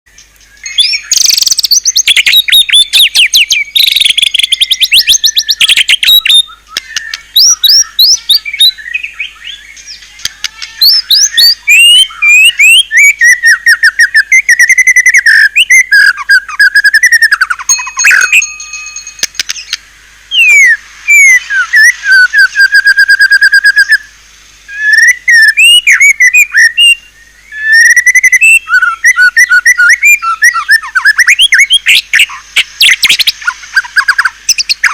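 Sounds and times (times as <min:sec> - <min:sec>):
bird singing whistles and trills: 0:00.1 - 0:24.1, 0:24.7 - 0:34.9.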